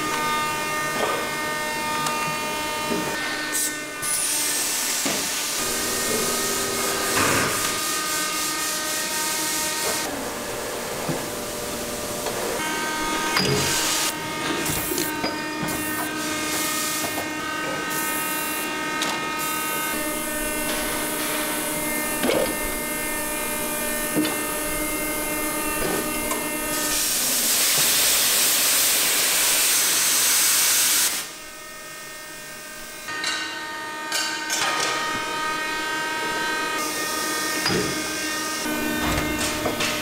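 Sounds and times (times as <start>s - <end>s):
hydraulic machine humming: 0.0s - 8.2s, 9.8s - 29.4s, 34.9s - 40.0s.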